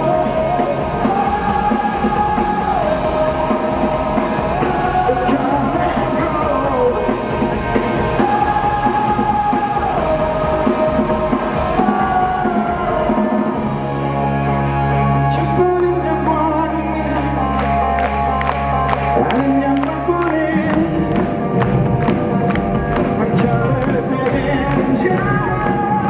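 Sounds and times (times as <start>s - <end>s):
person singing: 0.0s - 21.6s, 22.9s - 26.0s
rock band playing live: 0.0s - 26.0s.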